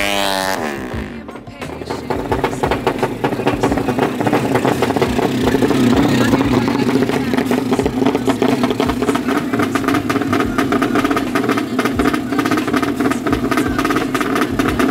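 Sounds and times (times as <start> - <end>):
scooter engine revving hard: 0.0 - 14.9.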